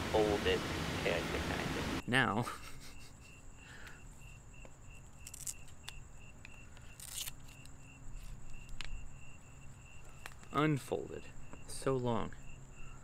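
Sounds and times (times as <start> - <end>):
cricket chirping: 2.0 - 13.0.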